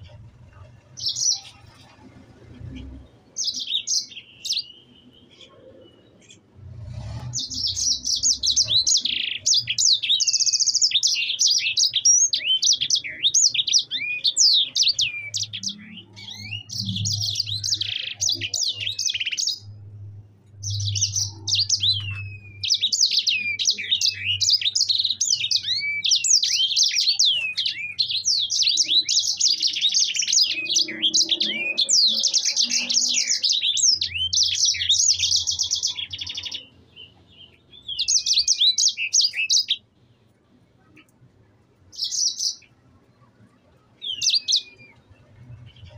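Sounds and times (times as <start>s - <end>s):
finch singing: 0.0s - 39.8s, 41.9s - 42.8s, 44.0s - 45.9s.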